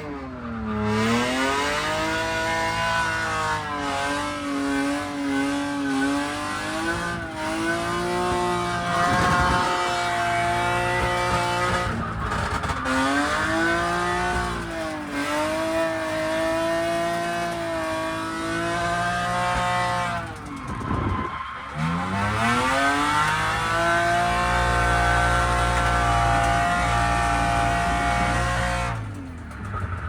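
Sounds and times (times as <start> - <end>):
car engine revving: 0.0 - 30.0
tyre squeal: 2.7 - 30.0.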